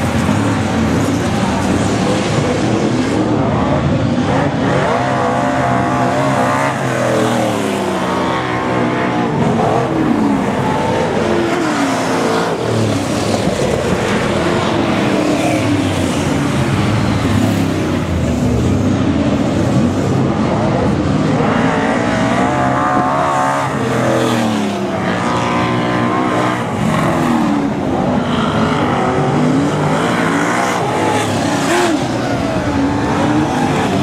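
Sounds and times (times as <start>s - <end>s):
racing car engines revving: 0.0s - 34.0s.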